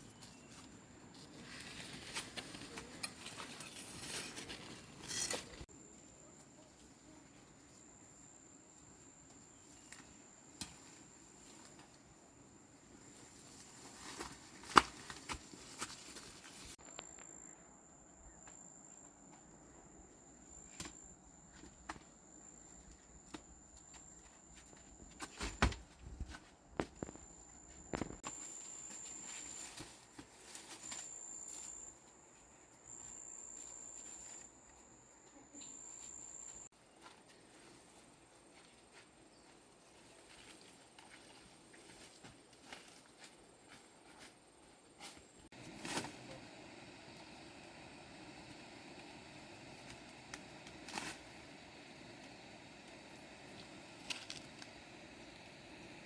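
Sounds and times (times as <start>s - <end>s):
rustles: 0.0s - 7.8s, 12.9s - 17.6s, 20.5s - 56.0s.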